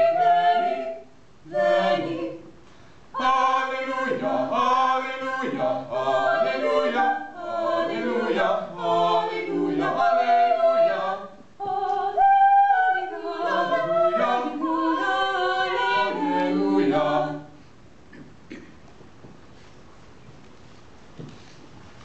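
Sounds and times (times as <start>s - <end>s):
vocal quartet singing a cappella: 0.0s - 18.2s.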